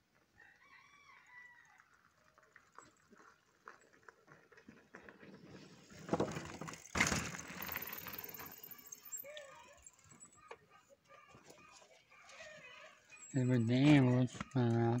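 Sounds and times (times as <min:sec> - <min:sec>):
bike tyres rolling on dirt: 0:00.0 - 0:10.4, 0:11.3 - 0:15.0.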